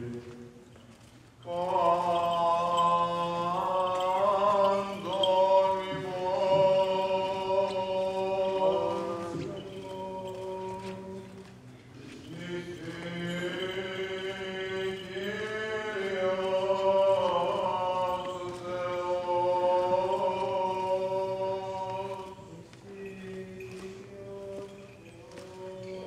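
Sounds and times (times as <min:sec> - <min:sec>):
voices chanting slow melody: 0:01.4 - 0:26.0.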